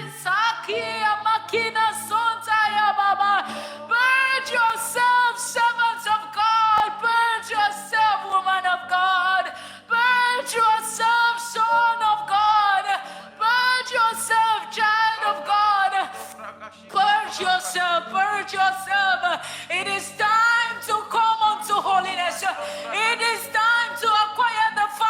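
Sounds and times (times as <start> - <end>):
woman singing in tongues: 0.0 - 25.0.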